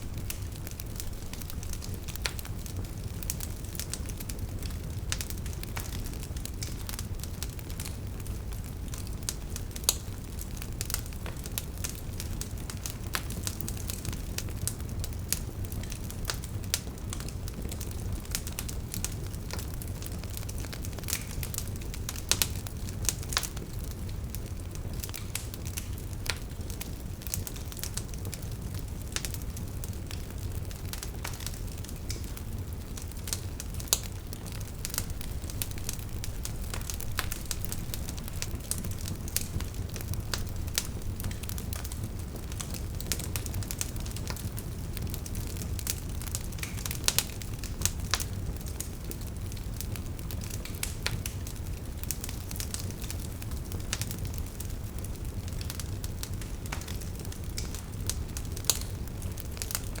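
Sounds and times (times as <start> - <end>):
logs crackling in fire: 0.0 - 60.0.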